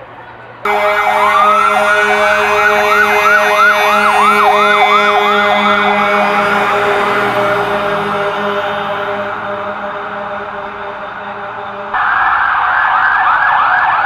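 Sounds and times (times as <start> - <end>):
steady underlying tones: 0.6 - 13.0
emergency siren wailing and yelping: 0.7 - 14.0.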